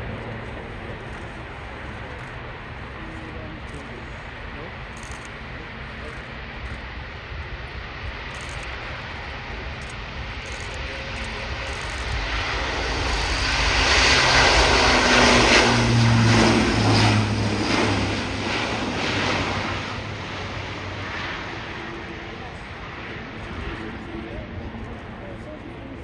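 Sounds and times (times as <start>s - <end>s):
turboprop plane flying past: 0.0s - 26.0s.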